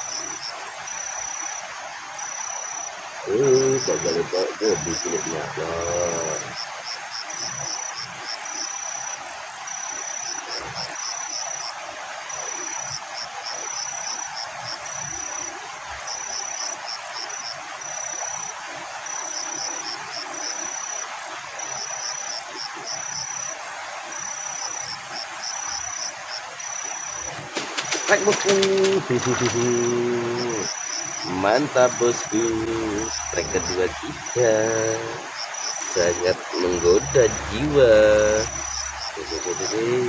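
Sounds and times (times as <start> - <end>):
cricket-like insect chirping: 0.0 - 40.0
steady hiss: 0.0 - 40.0.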